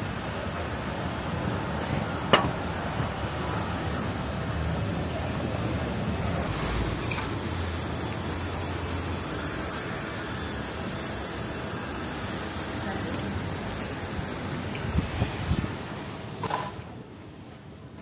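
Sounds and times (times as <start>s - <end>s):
rushing outdoor background noise: 0.0s - 18.0s.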